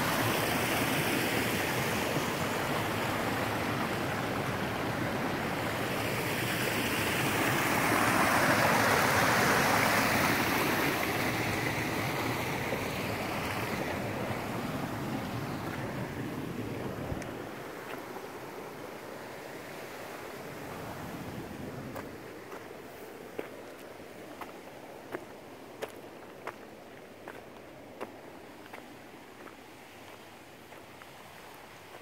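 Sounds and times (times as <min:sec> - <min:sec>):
stream running over stones: 0:00.0 - 0:32.0.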